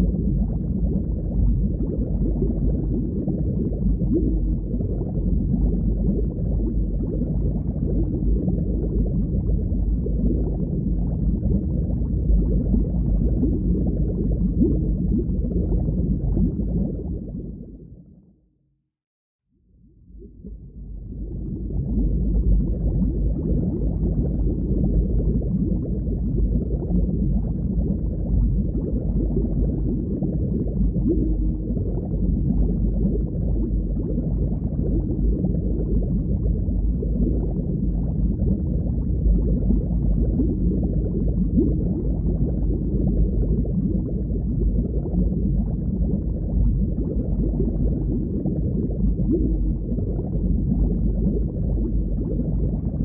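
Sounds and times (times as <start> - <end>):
muffled underwater rush: 0.0 - 18.4, 19.8 - 53.0.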